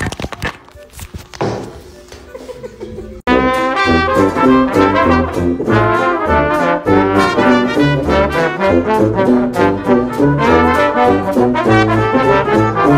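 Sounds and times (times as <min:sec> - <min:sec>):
brass music with steady beat: 0:00.8 - 0:12.9.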